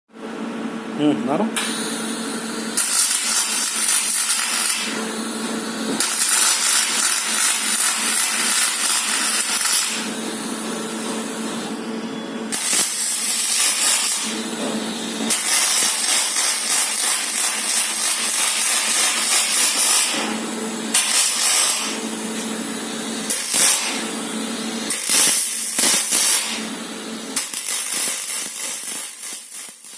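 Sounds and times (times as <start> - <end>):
welding arc hissing and crackling: 1.6 - 11.7, 12.5 - 29.9.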